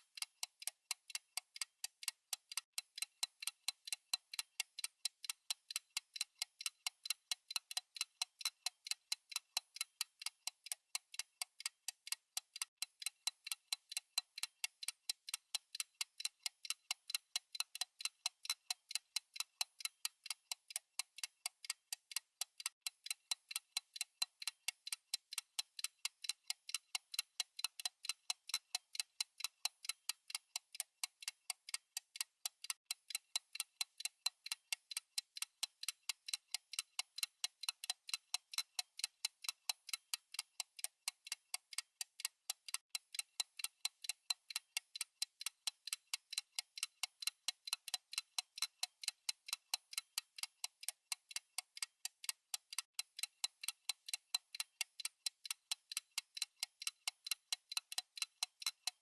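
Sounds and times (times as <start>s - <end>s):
fast clock ticking: 0.0s - 59.0s.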